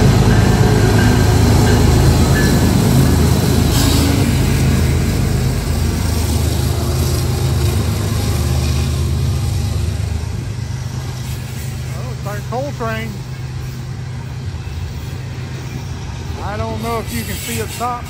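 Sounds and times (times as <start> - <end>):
diesel locomotive engines droning: 0.0 - 18.0
freight cars rolling past: 0.0 - 18.0.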